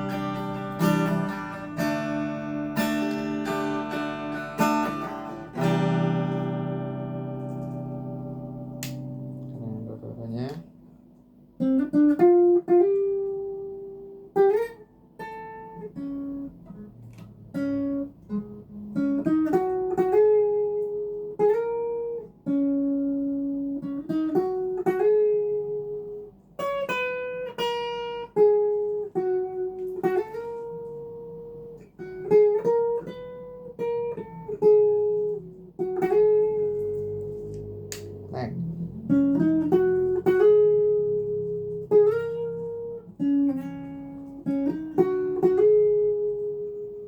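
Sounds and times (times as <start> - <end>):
clean electric guitar melody: 0.0 - 47.0.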